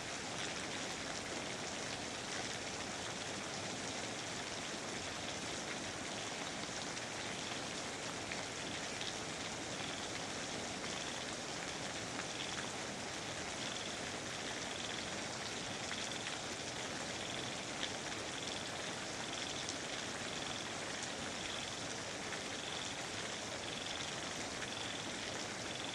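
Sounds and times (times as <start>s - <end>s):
rain hiss: 0.0s - 25.9s.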